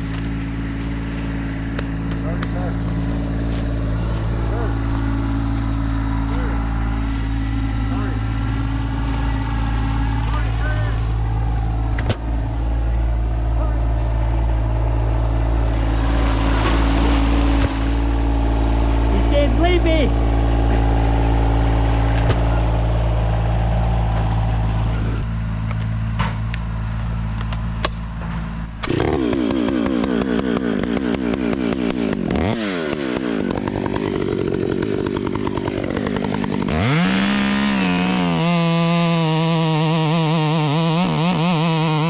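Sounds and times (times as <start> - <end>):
chainsaw revving: 0.0 - 12.1, 14.4 - 24.6, 28.8 - 42.0
engine running at low revs: 0.0 - 42.0.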